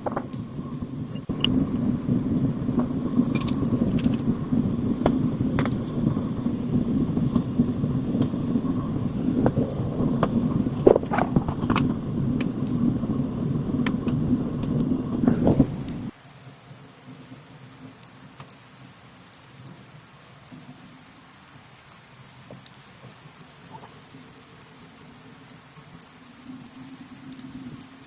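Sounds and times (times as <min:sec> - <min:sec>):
heavy rain drumming on a tent: 0:00.0 - 0:28.0.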